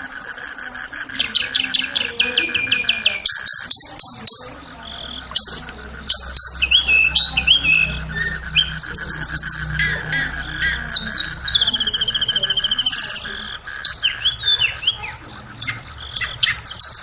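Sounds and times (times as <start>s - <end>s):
bird song with high chirps: 0.0s - 17.0s
faint low hum: 0.0s - 17.0s.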